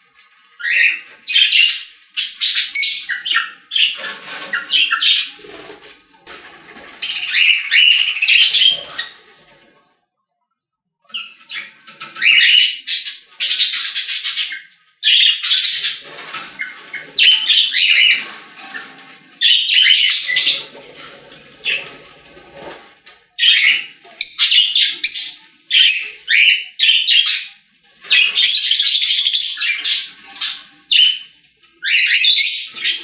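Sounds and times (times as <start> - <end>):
birds squawking and chirping: 0.0 - 9.7, 11.1 - 33.0.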